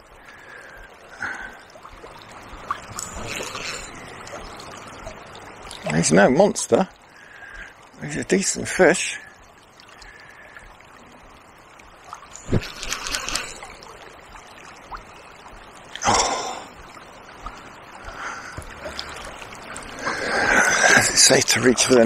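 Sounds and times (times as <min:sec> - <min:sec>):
fast river water running: 0:00.0 - 0:22.0.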